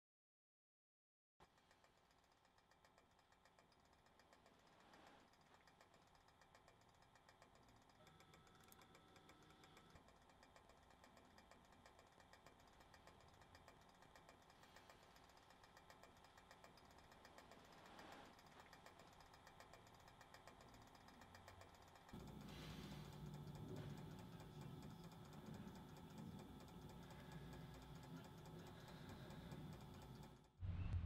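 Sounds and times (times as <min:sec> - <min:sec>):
faint fluttering hum: 0:01.6 - 0:31.0.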